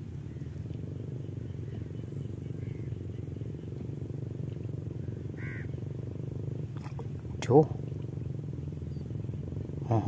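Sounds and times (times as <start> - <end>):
high-pitched insect buzz: 0.0 - 10.0
steady low drone: 0.0 - 10.0.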